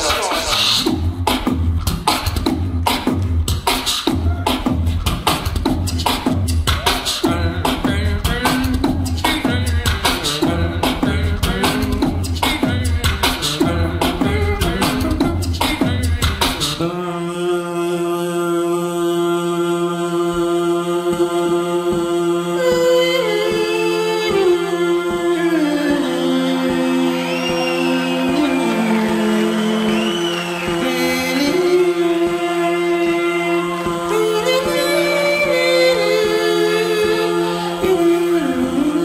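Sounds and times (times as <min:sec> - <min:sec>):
beatboxing: 0:00.0 - 0:17.9, 0:20.2 - 0:39.0
held vocal drone: 0:06.7 - 0:39.0.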